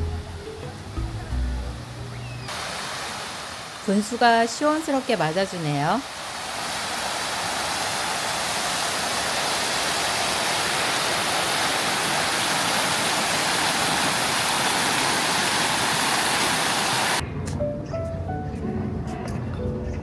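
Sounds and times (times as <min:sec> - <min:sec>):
fountain water splashing: 0:00.0 - 0:17.2.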